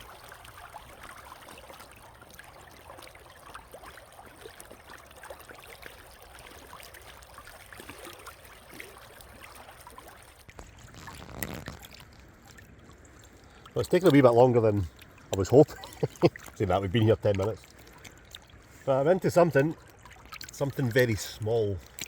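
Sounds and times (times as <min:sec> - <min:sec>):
river water babbling: 0:00.0 - 0:11.0, 0:11.7 - 0:22.0.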